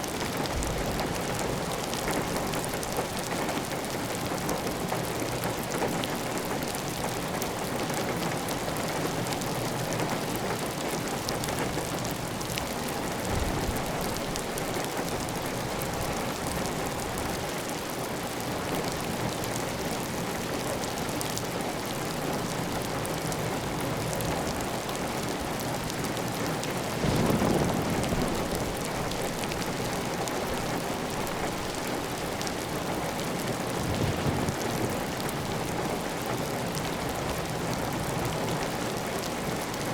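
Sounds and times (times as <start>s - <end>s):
heavy rain on a tile roof: 0.0s - 39.9s.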